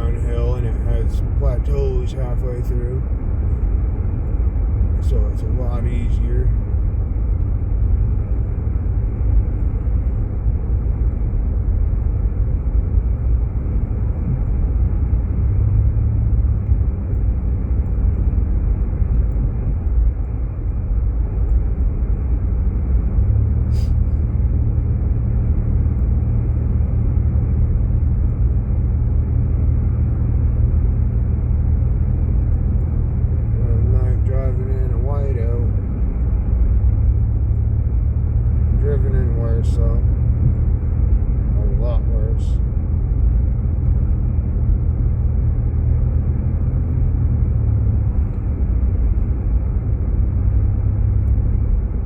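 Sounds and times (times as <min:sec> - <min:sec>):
engine and road rumble in cabin: 0:00.0 - 0:52.0.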